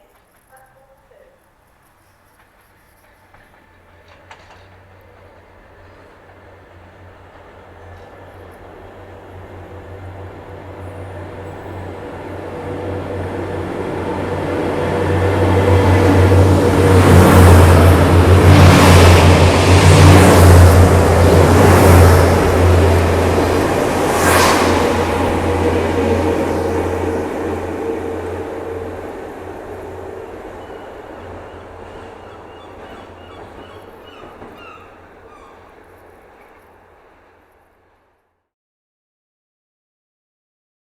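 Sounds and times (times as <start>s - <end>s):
train hum and rail noise: 0.0s - 38.3s
rumbling wheel noise: 2.4s - 36.0s.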